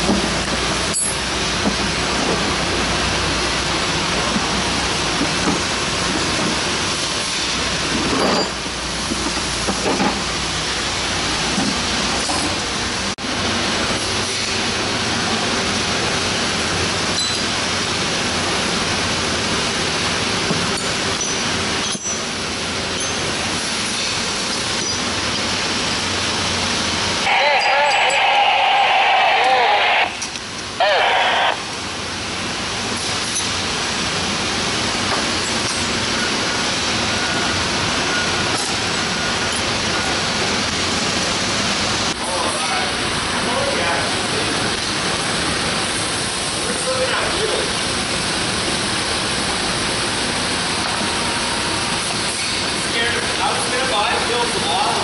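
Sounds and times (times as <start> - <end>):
industrial shop floor roar: 0.0 - 55.0.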